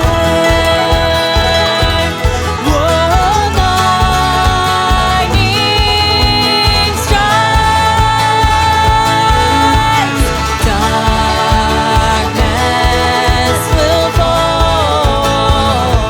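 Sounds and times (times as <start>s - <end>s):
alternative rock band playing: 0.0s - 16.0s.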